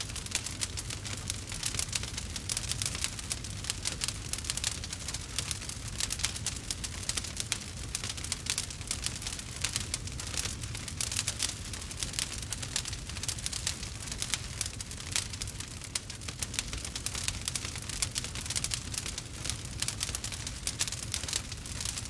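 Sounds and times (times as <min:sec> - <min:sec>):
low rumble of burning logs: 0:00.0 - 0:22.0
wood fire crackling and popping: 0:00.0 - 0:22.0.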